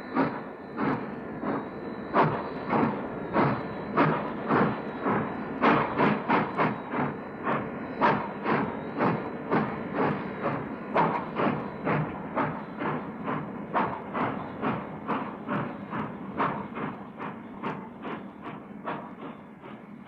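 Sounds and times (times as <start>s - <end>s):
steam locomotive exhaust chuffs: 0.0s - 20.0s.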